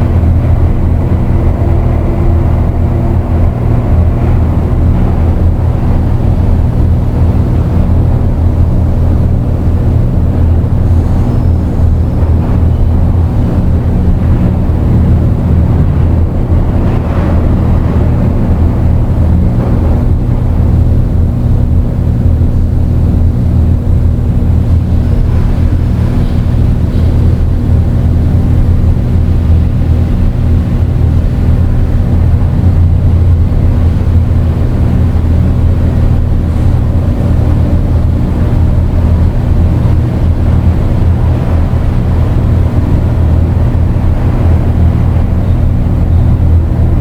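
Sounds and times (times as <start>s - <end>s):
dark ambient electronic drone: 0.0s - 47.0s
grainy rumbling noise: 0.0s - 47.0s.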